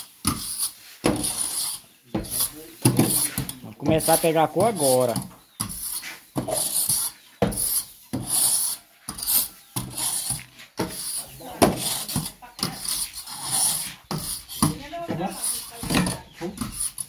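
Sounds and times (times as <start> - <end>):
metal rake scraping a pan: 0.0 - 17.0.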